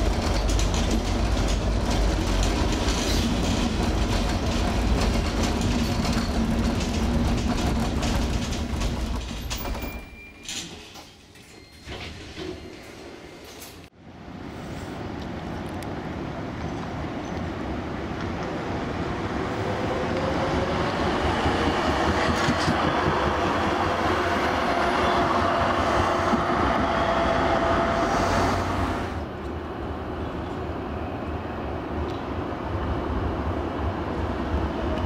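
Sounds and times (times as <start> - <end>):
tram rolling on rails: 0.0 - 35.0.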